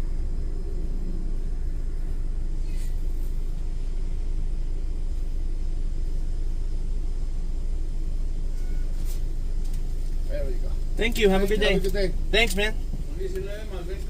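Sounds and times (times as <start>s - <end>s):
car idling: 0.0s - 14.0s.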